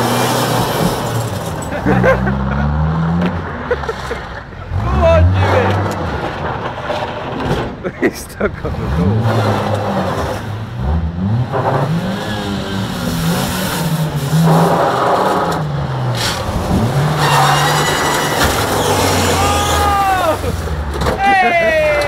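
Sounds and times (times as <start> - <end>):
car engines revving: 0.0 - 22.0
cars colliding: 0.0 - 22.0.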